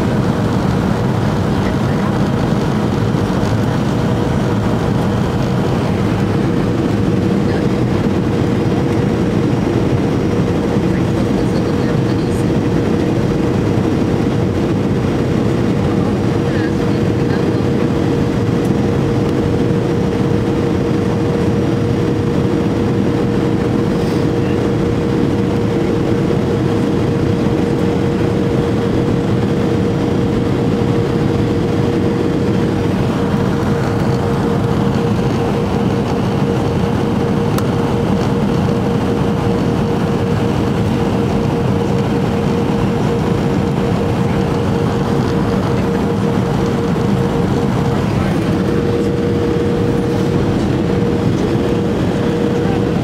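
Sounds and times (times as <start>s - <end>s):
airflow rushing in cabin: 0.0s - 53.0s
constant hum tone: 0.0s - 53.0s
jet engines droning: 0.0s - 53.0s.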